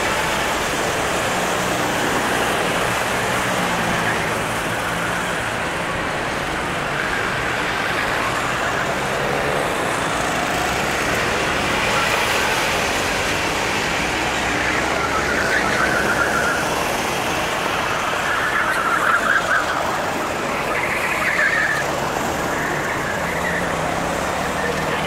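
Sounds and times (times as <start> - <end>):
go-kart engines buzzing: 0.0 - 25.0.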